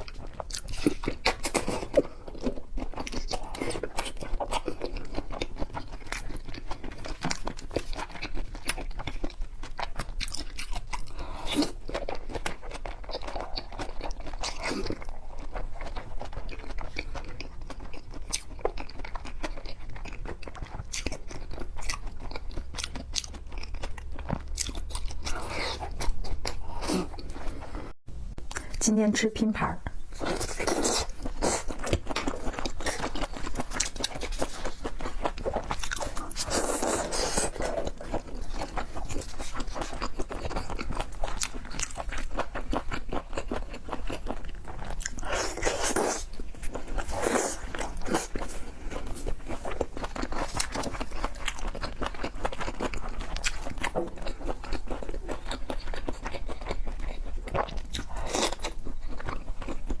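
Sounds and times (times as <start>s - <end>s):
person chewing seafood: 0.0s - 28.8s, 29.8s - 60.0s.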